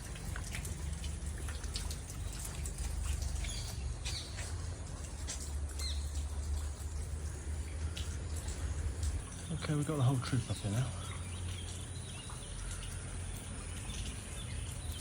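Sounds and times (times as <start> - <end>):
rain dripping and pattering: 0.0 - 15.0.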